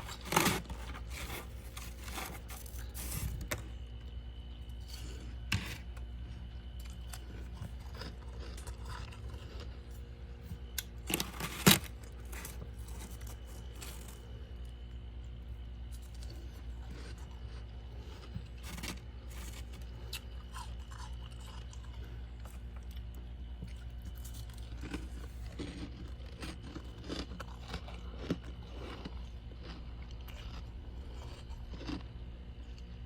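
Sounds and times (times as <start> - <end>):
freezer frost scraping crunches: 0.0 - 14.9, 15.9 - 23.1, 23.7 - 32.8
low room hum: 0.0 - 33.0.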